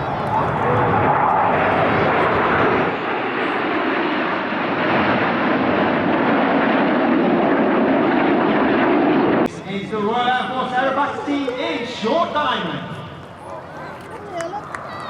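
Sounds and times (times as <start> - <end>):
jets flying past: 0.0 - 13.9.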